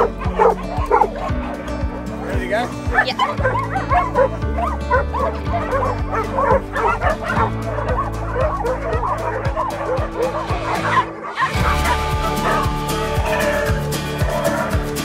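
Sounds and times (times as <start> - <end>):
dogs barking and whining: 0.0 - 2.3, 2.9 - 15.0
background music: 0.0 - 15.0.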